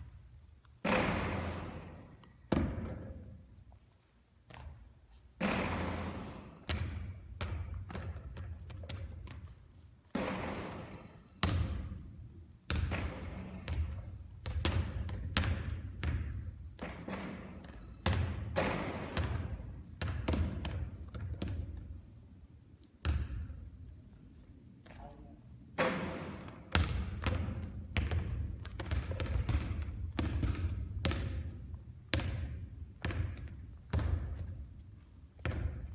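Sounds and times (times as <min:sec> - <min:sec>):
basketball bouncing with echo: 0:00.0 - 0:03.6, 0:04.5 - 0:22.2, 0:23.0 - 0:23.9, 0:25.7 - 0:35.9.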